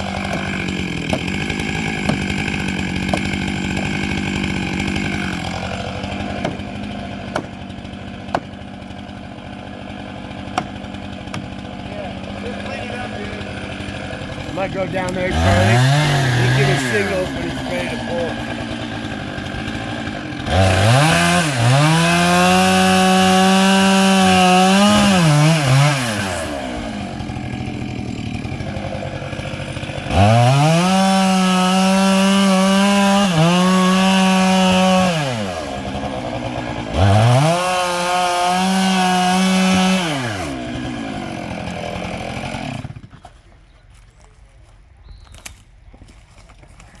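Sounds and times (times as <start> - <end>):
two-stroke chainsaw cutting tree: 0.0 - 43.4.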